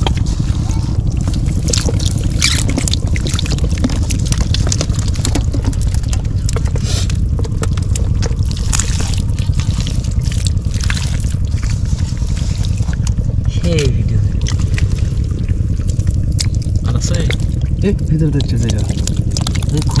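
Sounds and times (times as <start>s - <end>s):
low rumble: 0.0s - 20.0s
water splashing and trickling: 0.0s - 20.0s.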